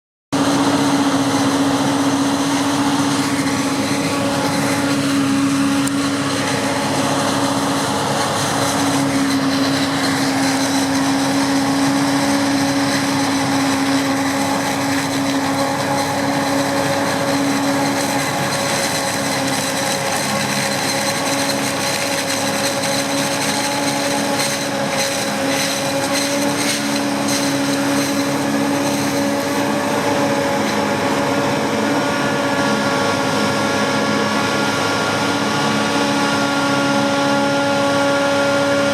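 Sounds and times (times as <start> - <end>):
farm machinery engine drone: 0.3 - 38.9
machine whine: 0.4 - 38.9.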